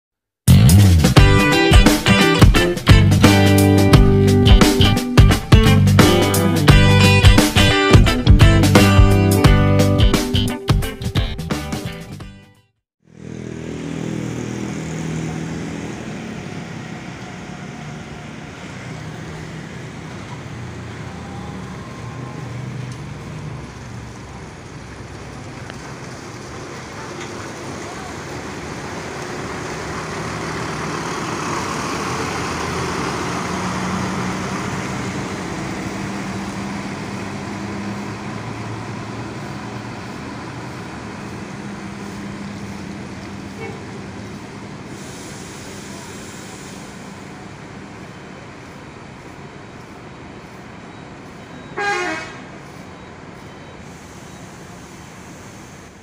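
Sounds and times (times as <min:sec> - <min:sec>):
traffic noise: 0:00.5 - 0:09.8, 0:13.0 - 0:56.0
bus engine idling: 0:00.5 - 0:10.5, 0:13.0 - 0:56.0.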